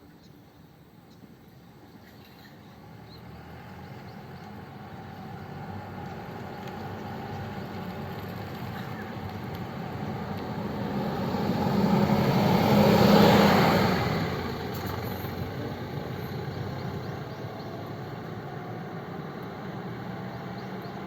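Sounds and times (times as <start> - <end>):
bus driving past: 1.7 - 21.0.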